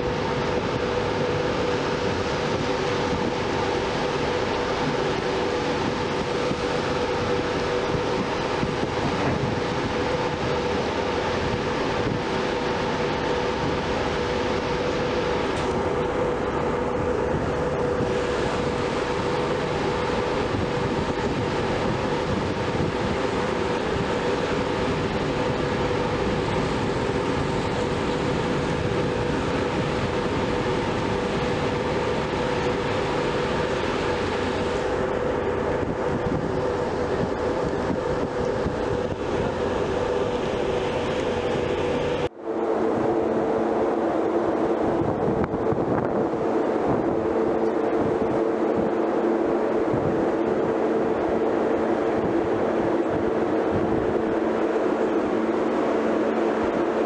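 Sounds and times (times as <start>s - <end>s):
rush of air and water: 0.0s - 57.0s
ship machinery drone: 0.0s - 57.0s.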